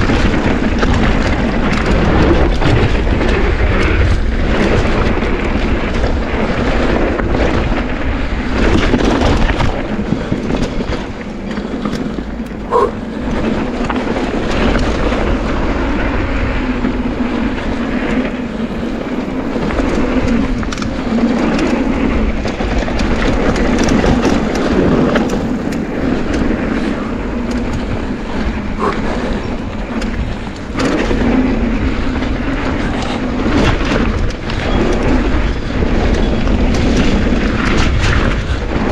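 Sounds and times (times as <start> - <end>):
bike rattling over bumps: 0.0 - 38.9
bike tyres rolling over gravel: 0.0 - 38.9
wind noise rumble: 0.0 - 38.9.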